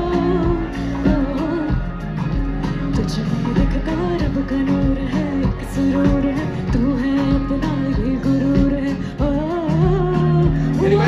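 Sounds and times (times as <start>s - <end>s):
band playing: 0.0s - 11.0s
person singing: 0.0s - 11.0s.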